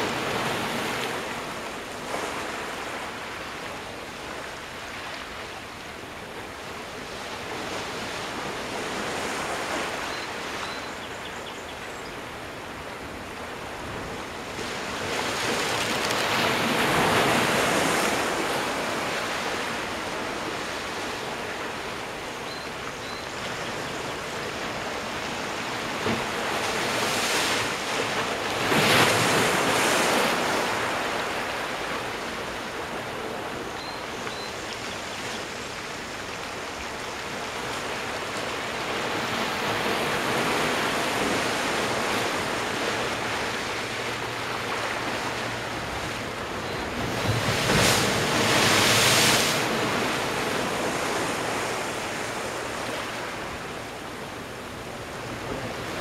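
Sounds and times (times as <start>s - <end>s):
ocean surf breaking on rocks: 0.0s - 5.4s, 6.4s - 10.7s, 12.5s - 22.3s, 24.2s - 33.7s, 35.2s - 56.0s.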